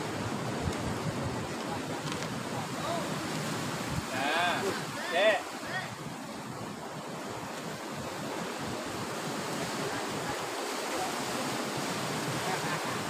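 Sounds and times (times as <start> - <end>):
sea surf washing against rocks: 0.0 - 13.0.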